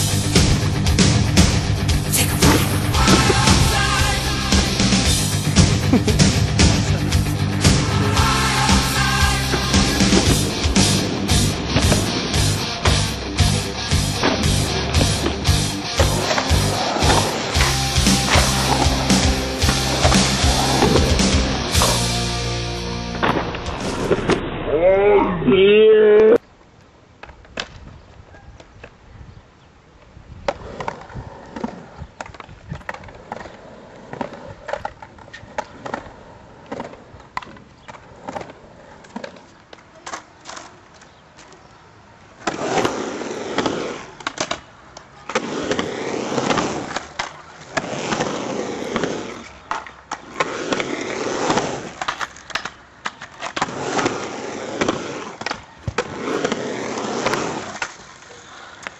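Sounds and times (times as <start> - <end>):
skateboard wheels rolling: 0.0 - 25.2, 26.4 - 58.9.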